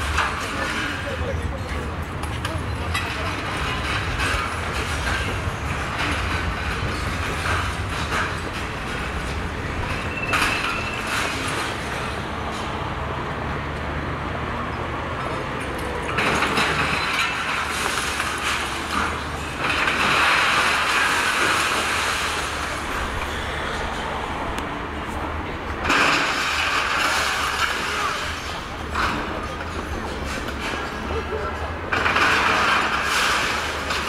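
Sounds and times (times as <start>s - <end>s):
diesel engine drone: 0.0s - 34.0s.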